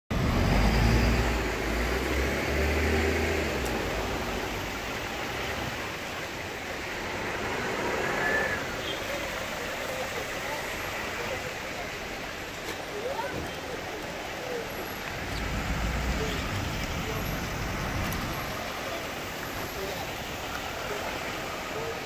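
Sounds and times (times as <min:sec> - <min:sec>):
traffic hiss on wet road: 0:00.2 - 0:22.0.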